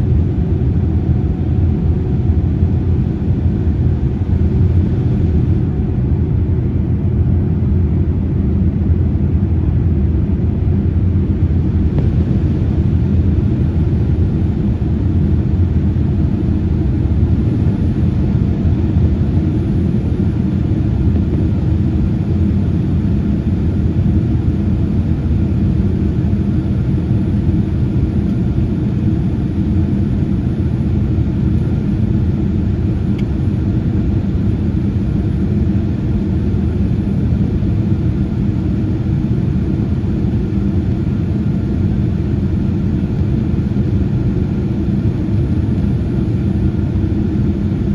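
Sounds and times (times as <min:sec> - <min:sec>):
airliner engines rumbling: 0:00.0 - 0:47.9.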